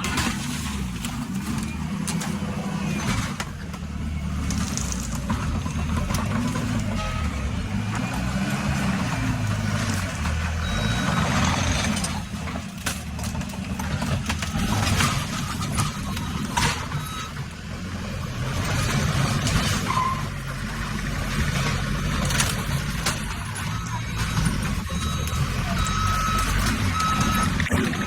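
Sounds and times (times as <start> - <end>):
loader engine rumbling: 0.0 - 28.0.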